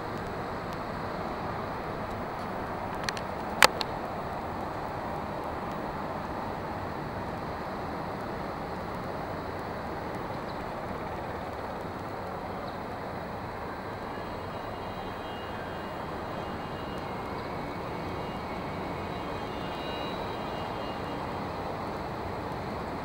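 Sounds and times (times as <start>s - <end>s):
city rushing hum: 0.0s - 23.0s.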